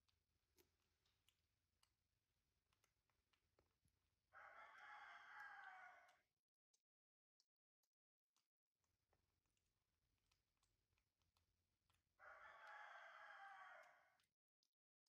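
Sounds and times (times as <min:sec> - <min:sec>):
faint clicks: 0:00.0 - 0:14.8.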